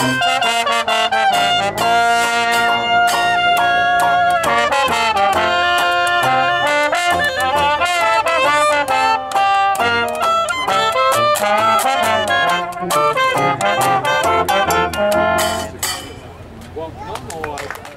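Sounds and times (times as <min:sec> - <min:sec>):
brass band playing jazz: 0:00.0 - 0:16.4.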